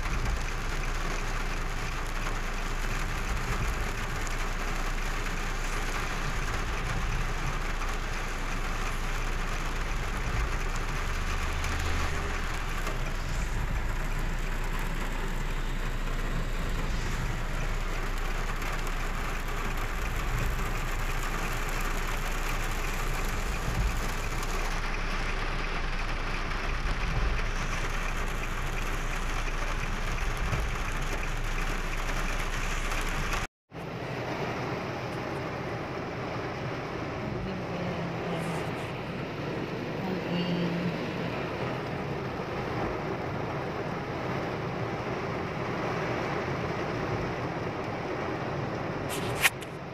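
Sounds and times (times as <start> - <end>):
engine and tyres rumbling: 0.0 - 49.9
heavy rain on car roof: 0.0 - 49.9.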